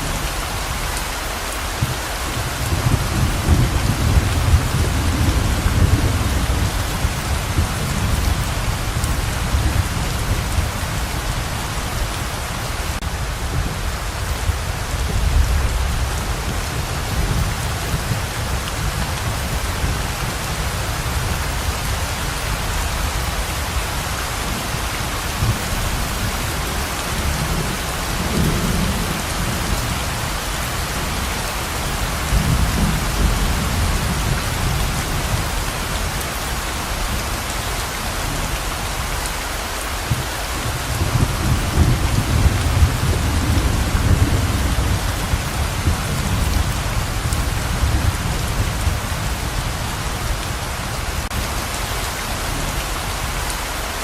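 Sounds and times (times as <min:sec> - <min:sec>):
heavy rain pouring: 0:00.0 - 0:54.0
thunder rumbling: 0:01.8 - 0:37.4, 0:40.0 - 0:51.5.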